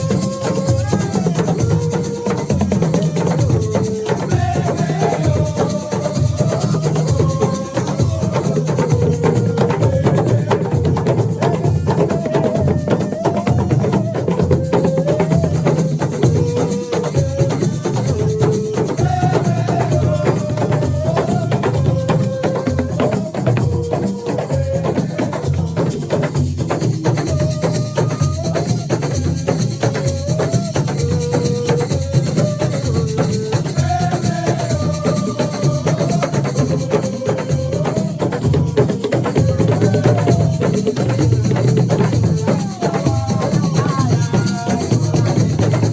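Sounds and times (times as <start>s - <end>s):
drums and shakers beat: 0.0s - 45.9s.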